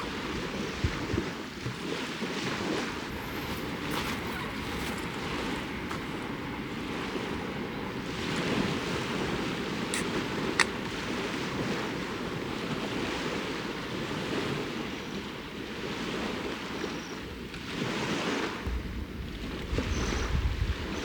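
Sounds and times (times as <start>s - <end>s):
waves washing onto shore: 0.0s - 21.0s
wind on microphone: 0.0s - 21.0s.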